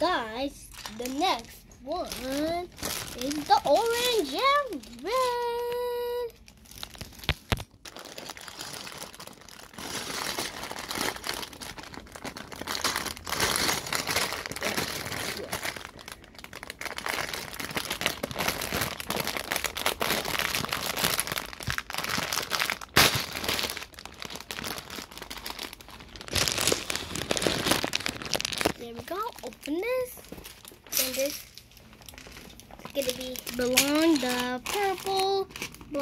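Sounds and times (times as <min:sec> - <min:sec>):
plastic bag crinkling: 0:00.0 - 0:36.0.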